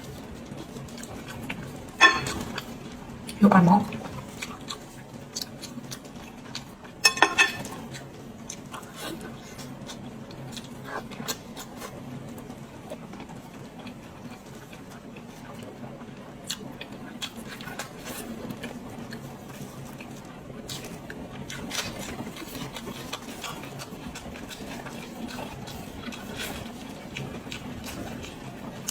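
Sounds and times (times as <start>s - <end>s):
chewing clicks and wet smacks: 4.0s - 7.0s, 7.6s - 28.9s.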